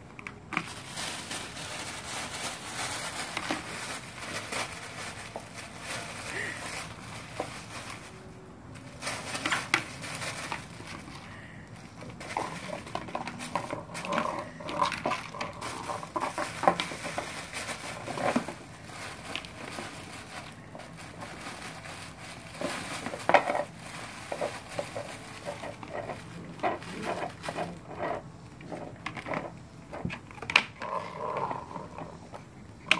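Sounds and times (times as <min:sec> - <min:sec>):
plastic toys clattering on concrete: 0:00.0 - 0:32.9.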